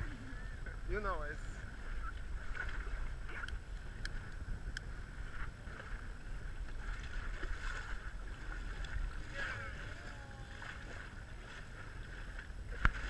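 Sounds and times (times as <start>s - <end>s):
motorboat engine rumble: 0.0s - 13.0s
water rushing past hull: 0.0s - 13.0s
wind on microphone: 0.0s - 13.0s.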